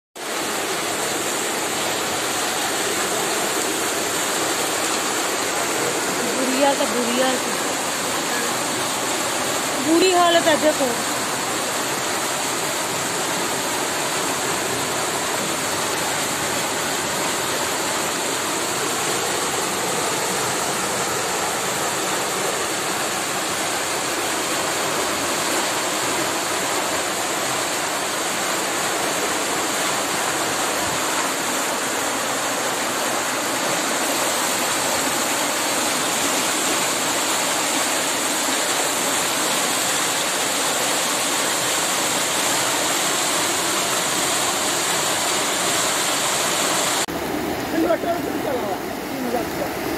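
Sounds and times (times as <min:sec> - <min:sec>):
floodwater rushing: 0:00.2 - 0:49.9.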